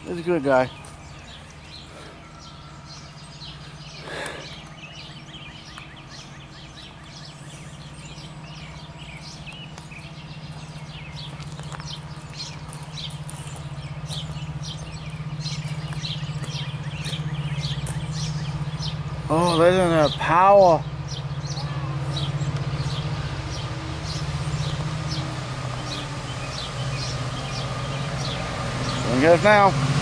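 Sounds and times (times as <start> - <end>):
birds chirping: 0.0 - 30.0
diesel locomotive drone: 0.0 - 30.0.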